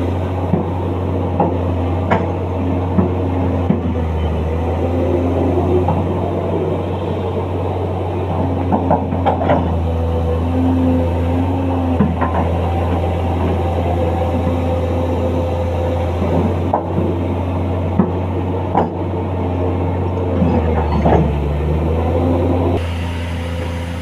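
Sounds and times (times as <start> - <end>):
excavator engine running: 0.0 - 24.0
hydraulic whine: 0.0 - 24.0.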